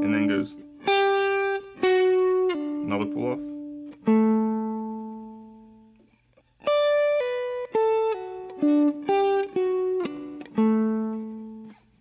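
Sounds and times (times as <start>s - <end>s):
guitar single notes: 0.0s - 11.9s.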